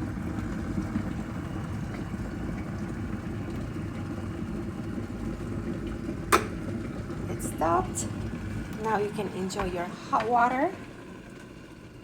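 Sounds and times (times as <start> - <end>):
electric kettle boiling: 0.0 - 12.0.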